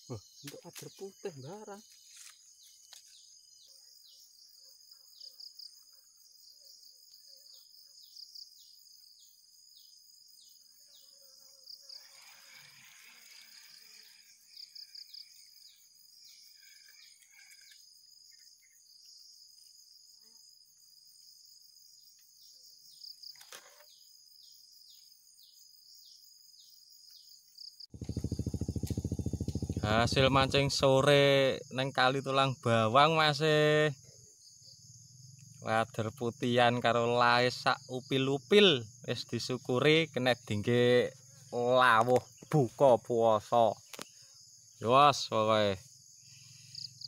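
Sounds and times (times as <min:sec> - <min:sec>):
insect chorus buzzing and chirping: 0:00.0 - 0:47.0.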